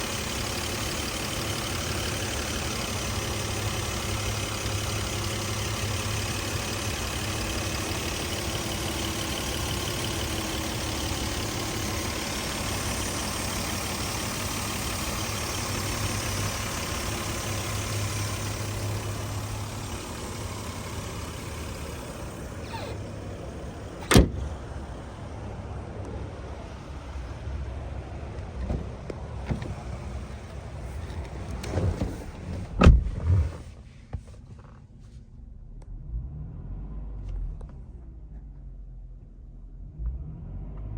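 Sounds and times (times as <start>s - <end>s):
car engine humming: 0.0s - 38.0s.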